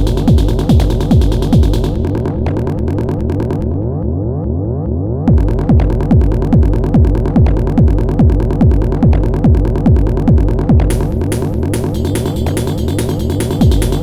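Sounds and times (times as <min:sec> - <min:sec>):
kick drum and hi-hats: 0:00.0 - 0:03.7, 0:05.3 - 0:14.0
synth bass sequence: 0:00.0 - 0:14.0.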